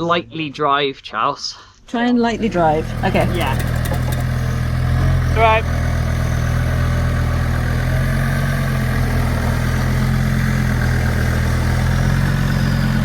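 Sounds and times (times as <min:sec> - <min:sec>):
race car engine idling: 0:02.3 - 0:13.0.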